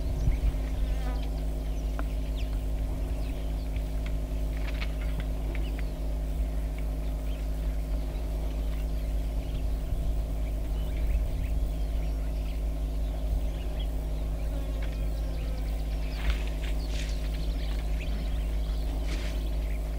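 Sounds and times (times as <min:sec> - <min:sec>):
bird chirps: 0:00.0 - 0:19.9
vehicle engine idling: 0:00.0 - 0:19.9.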